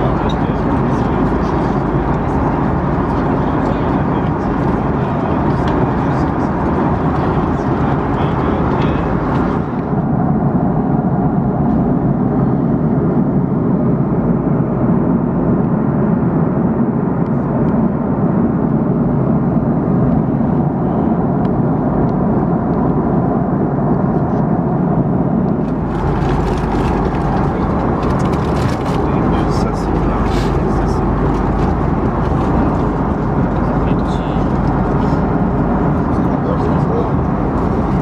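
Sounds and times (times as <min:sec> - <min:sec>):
airliner cabin engine and airflow noise: 0:00.0 - 0:38.0
deep rumble: 0:00.0 - 0:38.0.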